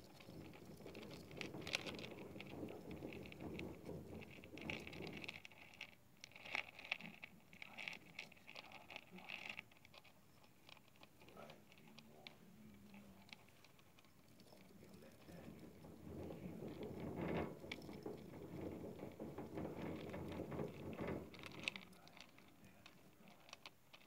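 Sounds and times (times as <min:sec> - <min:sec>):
hamster wheel clicking and rattling: 0:00.0 - 0:24.0.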